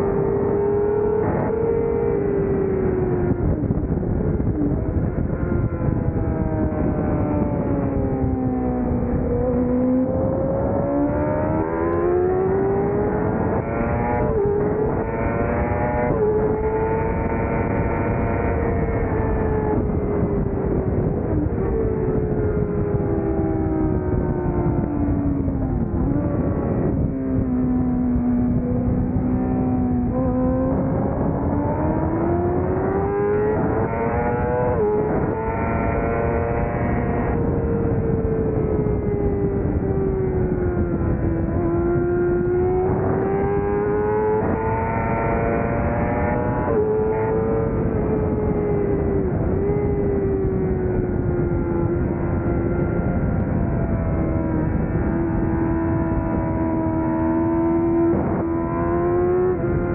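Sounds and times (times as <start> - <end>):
motorcycle engine accelerating: 0.0 - 59.9
wind noise rushing: 0.0 - 59.9.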